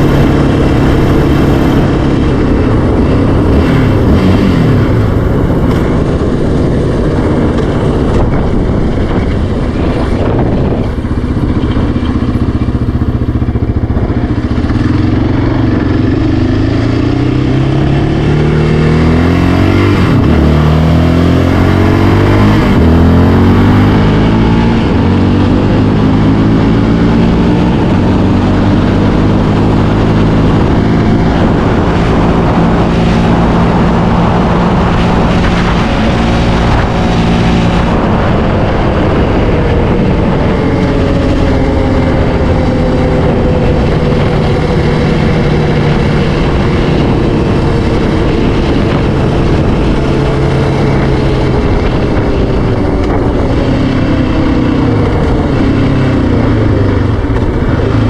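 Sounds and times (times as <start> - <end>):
quad bike engine revving: 0.0 - 58.0.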